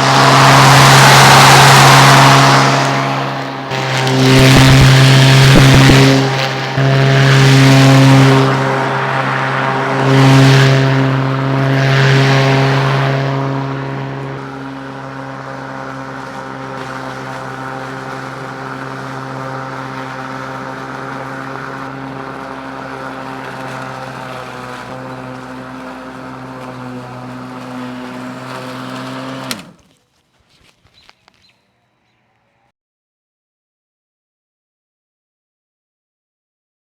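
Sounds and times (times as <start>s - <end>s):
electric lawn mower cutting grass: 0.0s - 31.5s.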